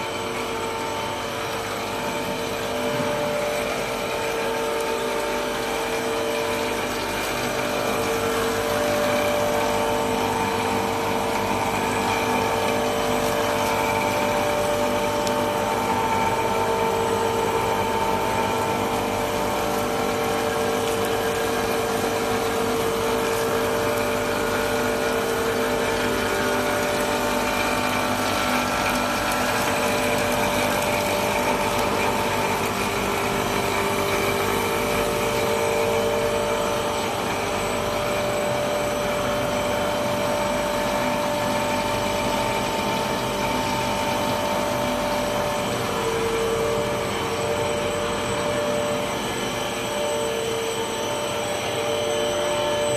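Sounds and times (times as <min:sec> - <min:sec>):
machine hum: 0:00.0 - 0:52.9.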